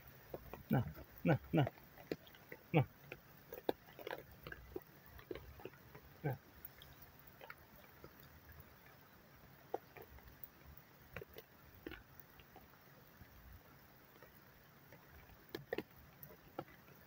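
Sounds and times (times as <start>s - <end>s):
faint rain hiss: 0.0s - 17.0s
raindrops dripping: 0.0s - 17.0s.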